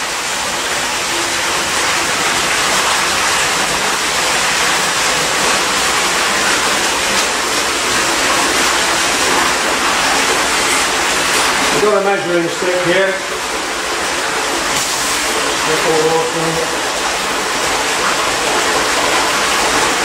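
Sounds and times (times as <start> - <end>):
water gushing from hose into tank: 0.0 - 20.0
water splashing: 0.0 - 20.0.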